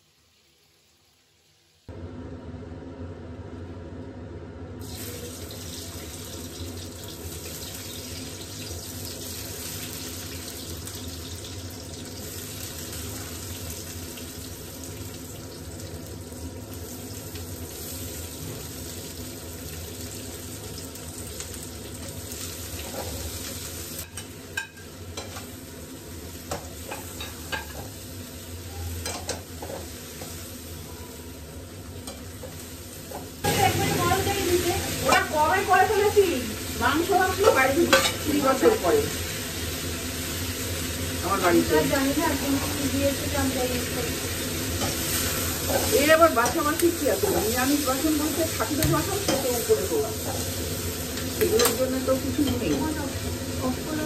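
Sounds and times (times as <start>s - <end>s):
vegetables sizzling in hot oil: 0.0s - 1.9s, 4.8s - 54.0s.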